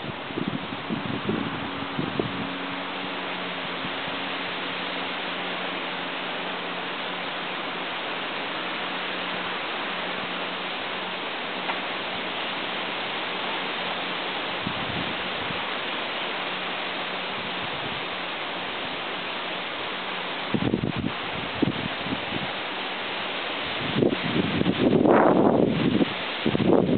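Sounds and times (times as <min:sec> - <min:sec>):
steady hiss: 0:00.0 - 0:26.9.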